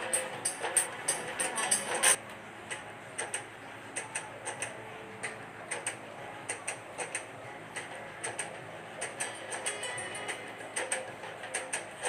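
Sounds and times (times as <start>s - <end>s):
clock-like ticking clicks: 0.0s - 12.0s
faint background hum: 0.0s - 12.0s.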